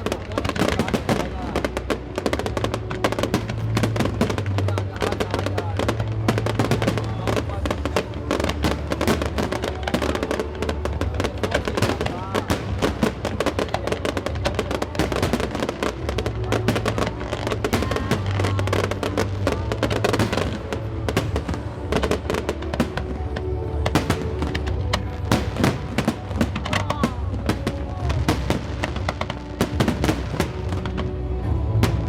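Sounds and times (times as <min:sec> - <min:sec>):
fireworks bursting and crackling: 0:00.0 - 0:32.0
music with held notes: 0:00.0 - 0:32.0.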